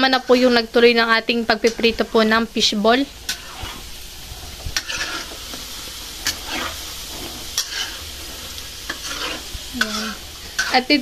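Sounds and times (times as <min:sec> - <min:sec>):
metal spatula scraping wok: 0:00.0 - 0:00.8, 0:01.6 - 0:11.0
food deep-frying in oil: 0:00.0 - 0:11.0.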